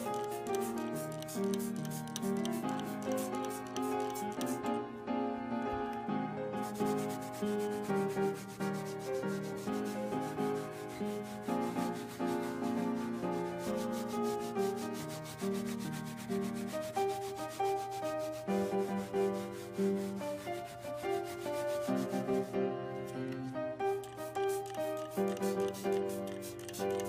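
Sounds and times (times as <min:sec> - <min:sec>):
background music: 0:00.0 - 0:27.0.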